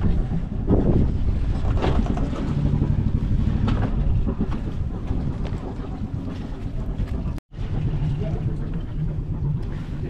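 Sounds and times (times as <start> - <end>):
boat engine idling: 0.0 - 10.0
wind buffeting microphone: 0.0 - 10.0.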